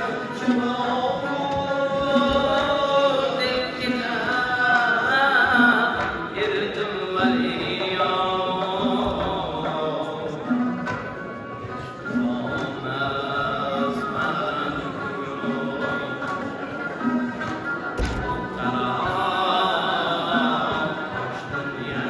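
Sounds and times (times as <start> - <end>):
man singing: 0.0 - 17.4, 18.1 - 22.0
plucked lute: 0.0 - 22.0.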